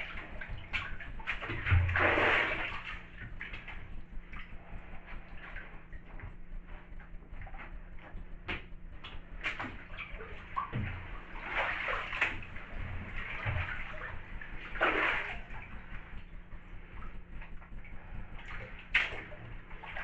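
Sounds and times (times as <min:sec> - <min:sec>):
bathwater sloshing and splashing: 0:00.0 - 0:20.0.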